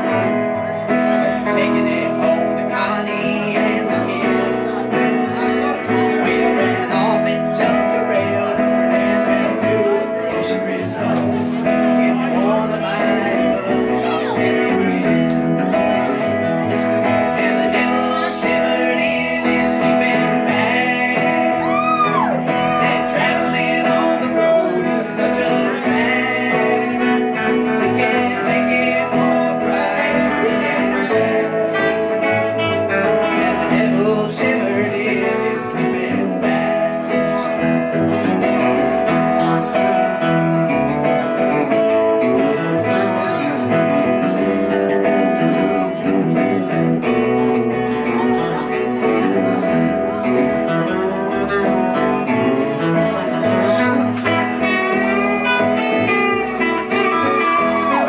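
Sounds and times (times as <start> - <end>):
acoustic guitar: 0.0 - 58.0
electric guitar: 0.0 - 58.0
man singing into microphone: 0.0 - 58.0
upright bass: 0.0 - 58.0.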